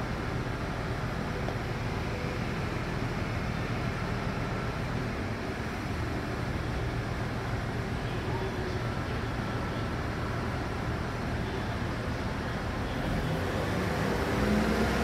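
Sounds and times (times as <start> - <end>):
diesel train engines idling: 0.0 - 15.0.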